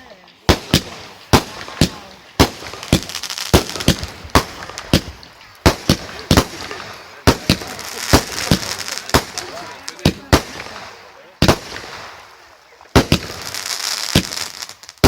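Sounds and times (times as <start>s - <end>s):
fireworks crackling: 0.0s - 15.0s
fireworks bangs: 0.3s - 15.0s.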